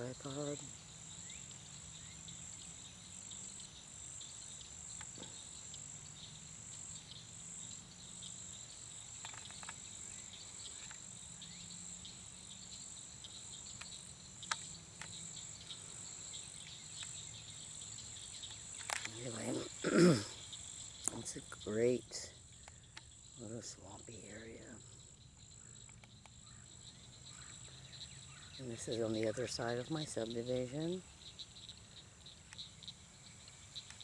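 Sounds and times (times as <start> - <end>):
insects trilling: 0.0 - 34.0
faint ticks: 3.3 - 24.1, 24.7 - 34.0.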